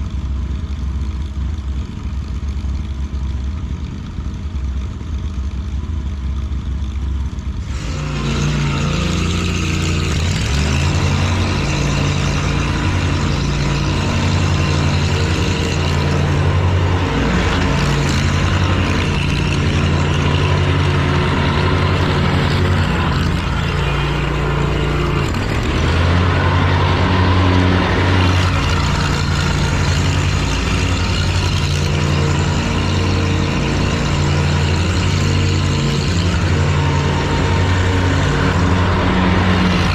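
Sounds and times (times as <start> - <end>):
lawn mower engine running: 0.0 - 39.9
rough full noise: 7.4 - 39.9.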